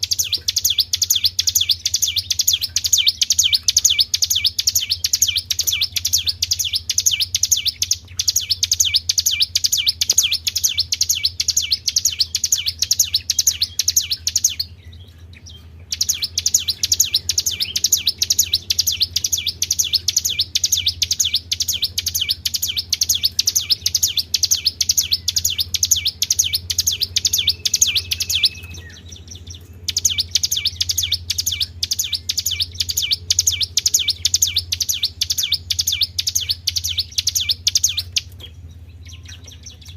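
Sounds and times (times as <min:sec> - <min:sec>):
recorded bird chirping: 0:00.0 - 0:39.9
steady low hum: 0:00.0 - 0:39.9.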